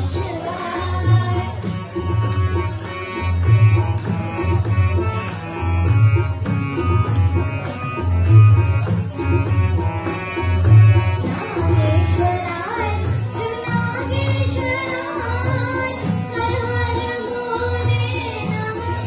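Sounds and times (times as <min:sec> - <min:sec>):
harmonium and keyboard tones: 0:00.0 - 0:19.0
tabla drum rhythm: 0:00.0 - 0:19.0.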